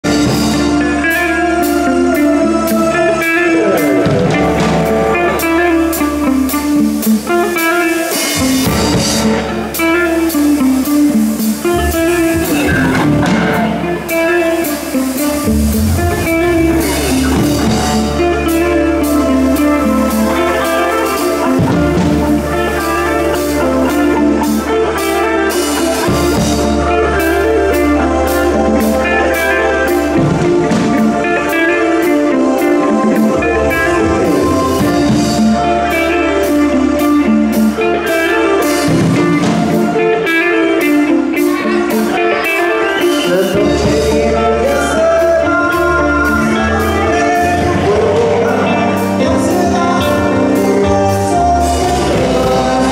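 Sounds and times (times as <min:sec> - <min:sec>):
bass notes: 0:00.0 - 0:52.9
drum kit: 0:00.0 - 0:52.9
electric guitar: 0:00.0 - 0:52.9.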